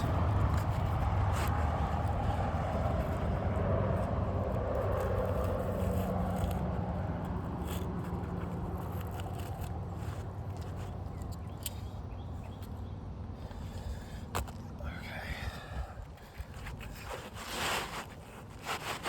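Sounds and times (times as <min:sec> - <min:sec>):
faint scrapes and clicks: 0:00.0 - 0:12.8, 0:16.2 - 0:19.0
engine rumbling: 0:00.0 - 0:19.0.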